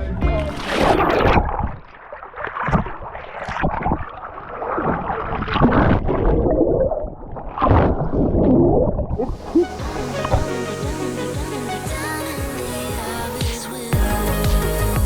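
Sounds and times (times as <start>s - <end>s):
water splashing against hull: 0.4s - 13.7s.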